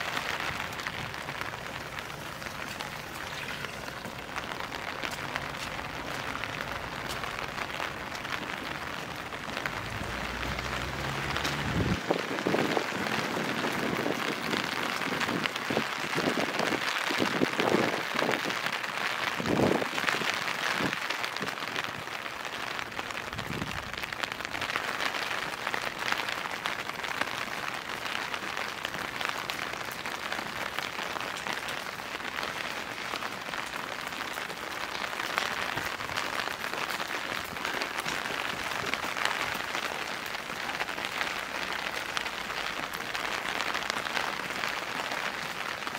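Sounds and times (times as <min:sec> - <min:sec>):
close raindrop hits: 0:00.0 - 0:45.9
rain pattering: 0:00.0 - 0:45.9.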